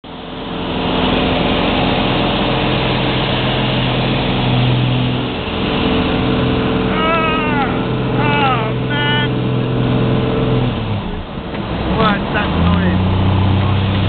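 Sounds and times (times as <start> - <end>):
aircraft engine and propeller drone: 0.1 - 14.0.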